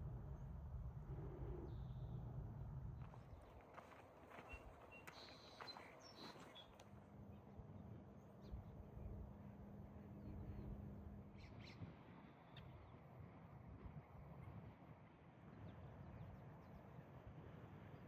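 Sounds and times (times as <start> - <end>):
faint low hum: 0.0 - 14.8.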